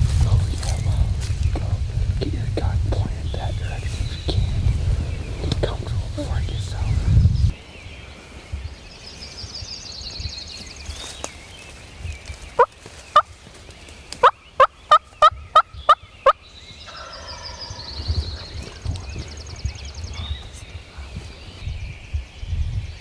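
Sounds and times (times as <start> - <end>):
songbird trilling: 2.4 - 22.6.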